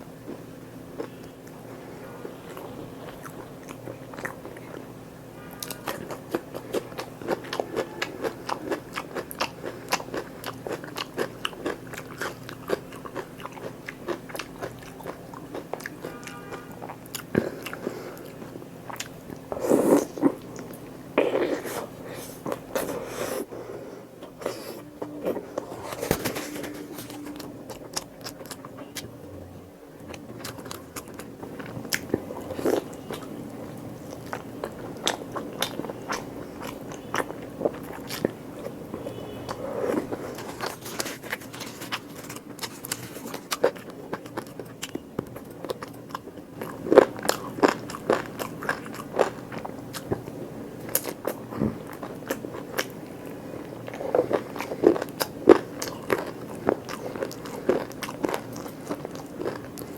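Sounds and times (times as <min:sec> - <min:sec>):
person chewing and crunching: 0:00.2 - 0:01.6, 0:02.2 - 0:04.9, 0:05.5 - 0:23.5, 0:24.2 - 0:29.1, 0:30.0 - 0:59.9.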